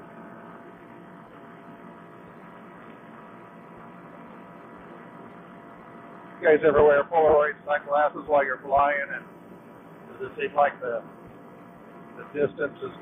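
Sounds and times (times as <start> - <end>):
muffled engine drone: 0.0 - 13.0.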